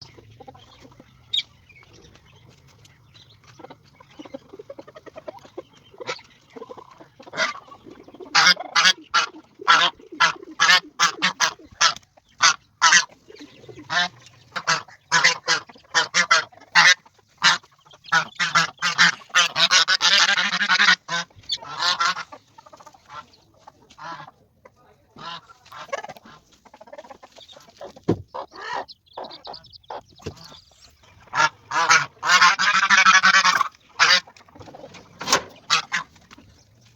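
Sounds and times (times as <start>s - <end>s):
poultry calling: 0.0s - 36.9s.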